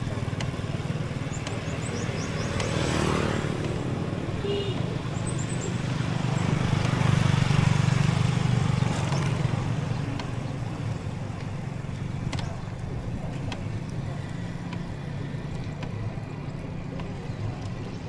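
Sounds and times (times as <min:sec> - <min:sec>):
road noise: 0:00.0 - 0:18.0
vehicle engine running: 0:00.0 - 0:18.0.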